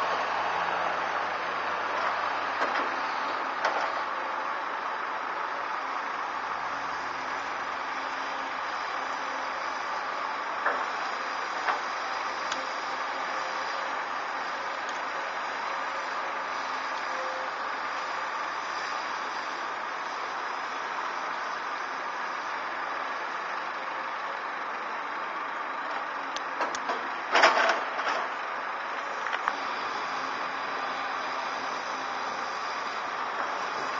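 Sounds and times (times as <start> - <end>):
heavy machinery diesel engines: 0.0 - 33.9.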